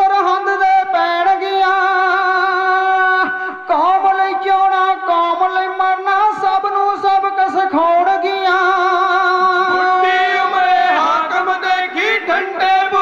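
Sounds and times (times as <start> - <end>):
men singing in unison: 0.0 - 13.0.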